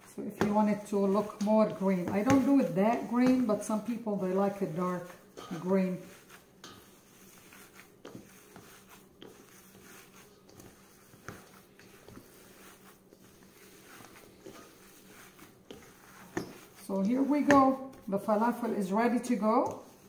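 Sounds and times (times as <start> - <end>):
dough squishing: 0.0 - 20.0.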